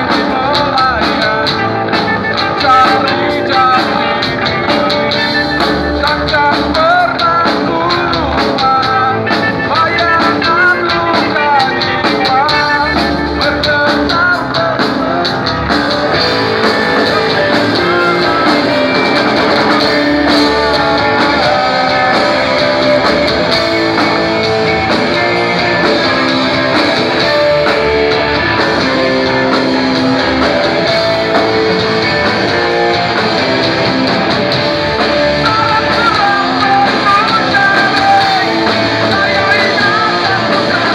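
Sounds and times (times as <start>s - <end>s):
person singing: 0.0s - 40.9s
rock band playing live: 0.0s - 40.9s.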